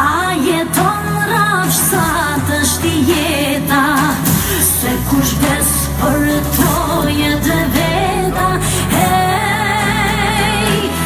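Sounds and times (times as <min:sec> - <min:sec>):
amplified backing music: 0:00.0 - 0:11.0
woman singing: 0:00.0 - 0:11.0.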